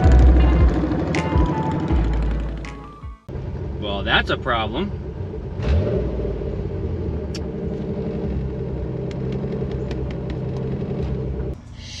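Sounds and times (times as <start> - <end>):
car engine cruising: 0.0 - 12.0.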